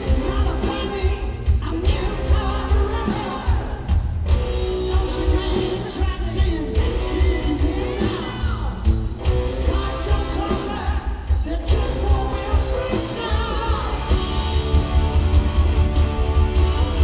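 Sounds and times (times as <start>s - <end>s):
electric guitar: 0.0s - 17.0s
heavy pulsing drums: 0.0s - 17.0s
live rock band playing: 0.0s - 17.0s.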